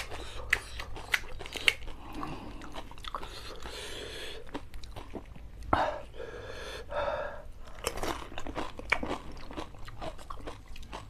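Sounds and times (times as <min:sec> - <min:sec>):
crunching and wet chewing: 0:00.0 - 0:05.7, 0:07.6 - 0:11.0.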